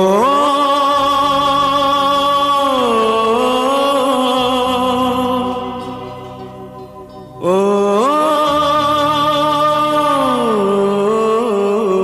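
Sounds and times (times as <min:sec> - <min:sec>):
person singing a long vowel: 0:00.0 - 0:06.5, 0:07.4 - 0:12.0
film song accompaniment: 0:00.0 - 0:12.0.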